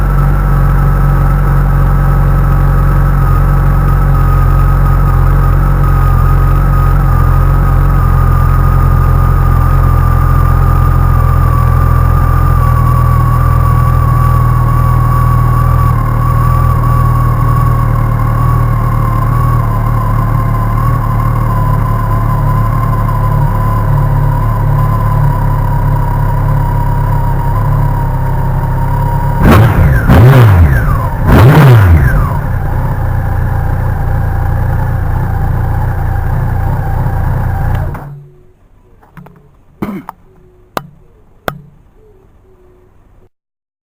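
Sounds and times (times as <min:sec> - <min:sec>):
motorcycle engine idling: 0:00.0 - 0:43.2.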